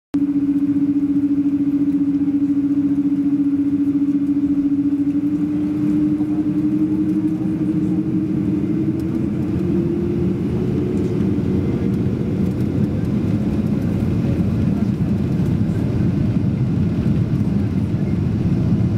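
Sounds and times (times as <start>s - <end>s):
jet engines droning: 0.2s - 18.9s.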